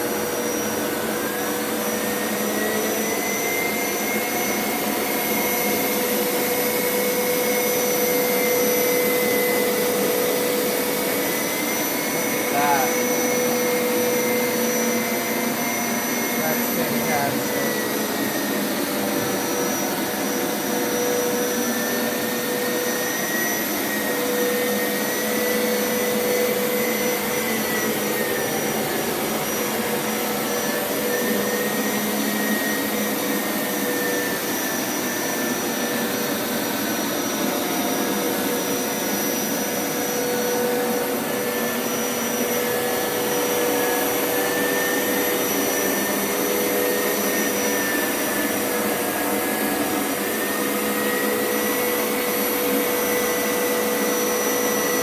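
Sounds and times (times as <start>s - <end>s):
carpet washer motor whine: 0.0s - 55.0s.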